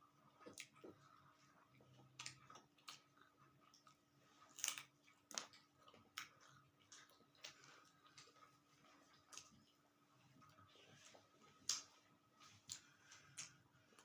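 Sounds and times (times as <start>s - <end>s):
chewing and wet mouth sounds: 0.0s - 14.0s.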